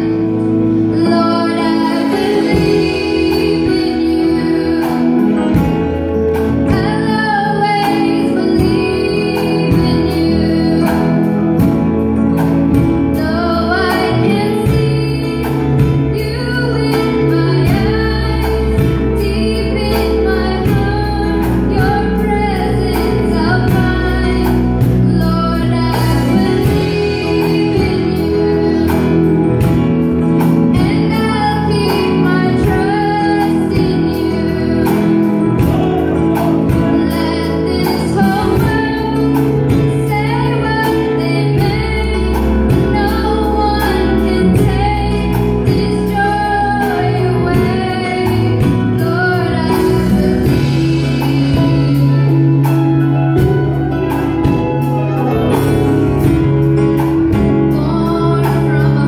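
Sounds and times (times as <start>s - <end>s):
girl singing into a microphone: 0.0s - 5.9s, 6.6s - 11.6s, 13.0s - 55.5s, 57.3s - 59.0s
instrumental accompaniment with beat: 0.0s - 59.0s.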